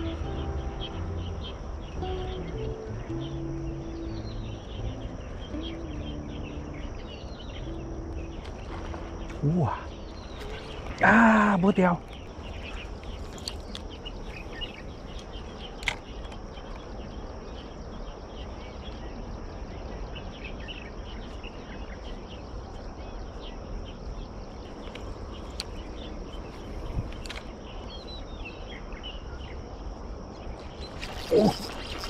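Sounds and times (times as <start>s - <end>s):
bird chirps: 0.0s - 29.6s, 30.4s - 32.0s
high insect drone: 0.0s - 32.0s.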